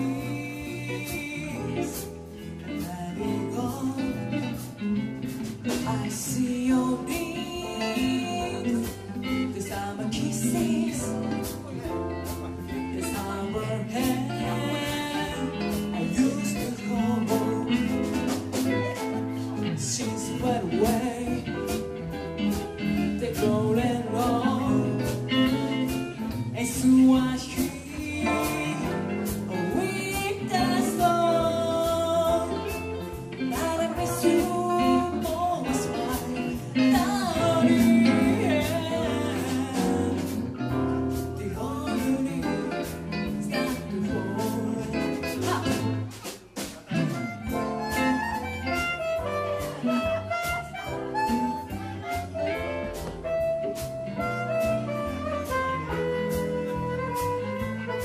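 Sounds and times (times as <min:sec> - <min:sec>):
drum kit: 0:00.0 - 0:58.0
electric guitars: 0:00.0 - 0:58.0
woman singing: 0:00.0 - 0:58.0.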